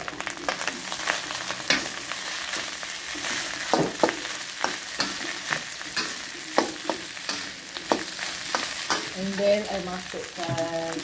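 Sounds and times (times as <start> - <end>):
rice sizzling in a wok: 0.0 - 11.0.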